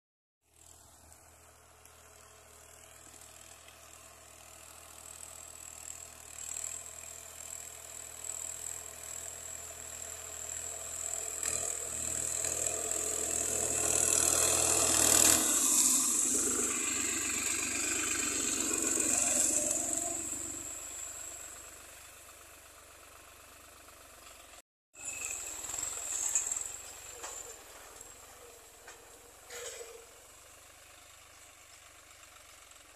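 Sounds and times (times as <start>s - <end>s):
diesel tractor engine running: 0.5s - 32.9s.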